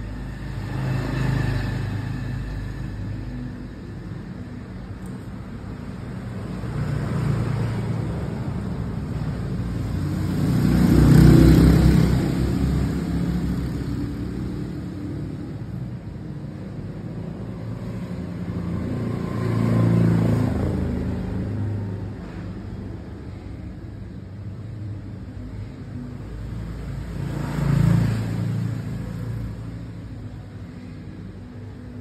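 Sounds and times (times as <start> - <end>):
vehicle engines passing by: 0.0 - 32.0.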